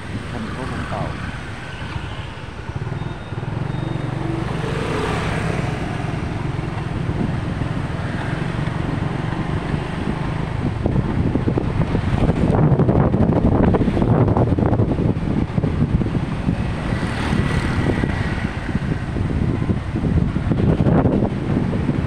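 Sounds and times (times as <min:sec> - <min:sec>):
outdoor noise: 0:00.0 - 0:22.0.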